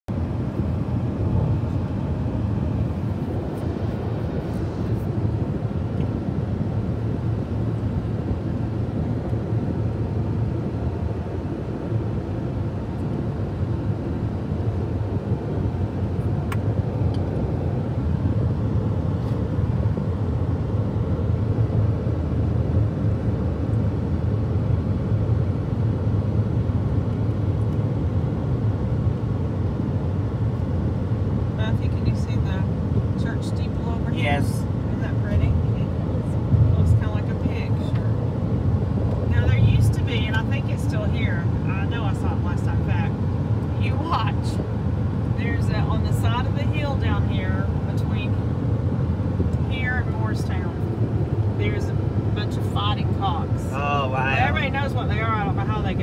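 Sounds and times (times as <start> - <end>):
car road noise: 0.1 - 56.0.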